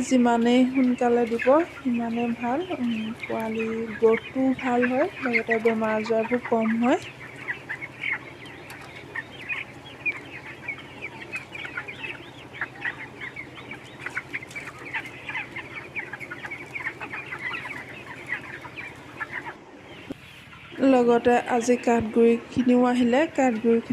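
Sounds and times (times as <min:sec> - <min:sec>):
chicks peeping: 0:00.0 - 0:23.9
low steady hum: 0:00.0 - 0:23.9.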